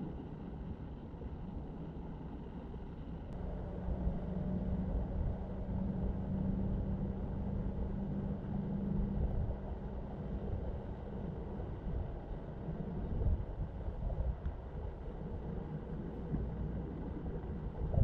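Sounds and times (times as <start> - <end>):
road and engine rumble: 0.0 - 18.0
steady low hum: 0.0 - 18.0.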